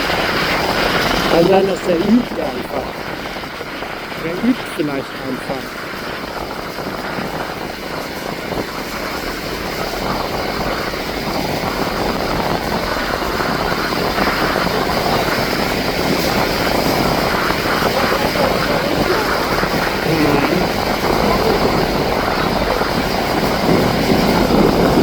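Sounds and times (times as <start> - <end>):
turboprop engines droning: 0.0 - 25.0.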